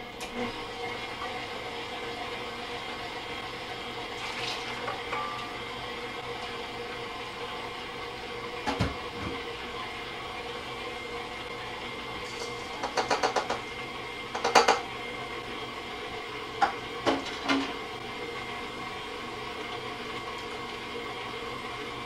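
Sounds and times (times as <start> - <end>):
electric stand mixer running: 0.0 - 22.0.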